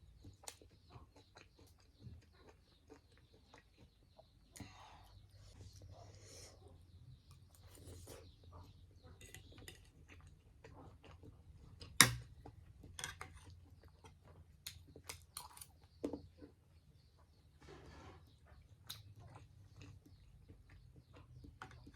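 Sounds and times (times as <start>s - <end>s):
chewing: 0.0s - 6.2s, 6.8s - 17.4s, 18.2s - 21.9s.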